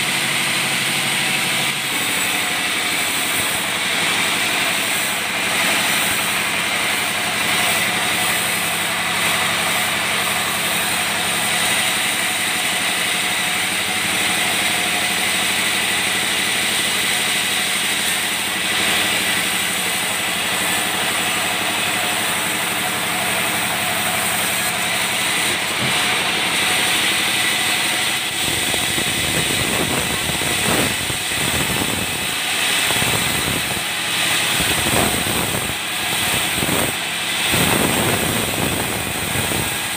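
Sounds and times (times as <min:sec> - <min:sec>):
band saw running: 0:00.0 - 0:39.9.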